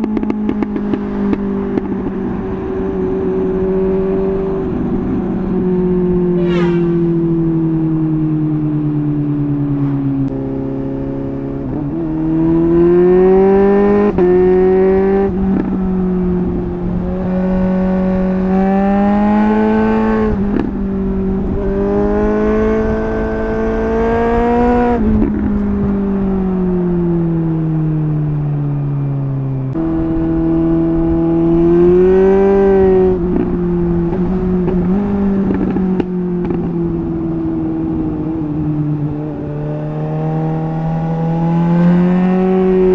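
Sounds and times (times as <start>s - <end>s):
motorcycle accelerating through gears: 0.0s - 42.9s.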